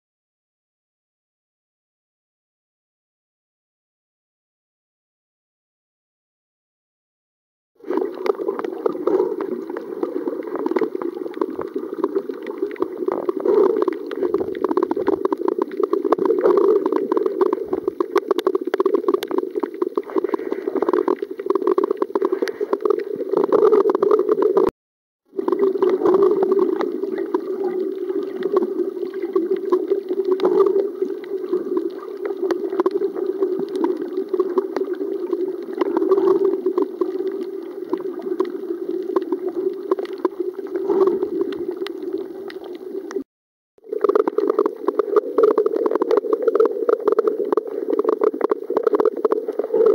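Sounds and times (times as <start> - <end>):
muffled underwater rush: 7.8 - 24.7, 25.3 - 43.2, 43.8 - 49.9
small crackling clicks: 7.9 - 24.7, 25.4 - 43.2, 43.9 - 49.9.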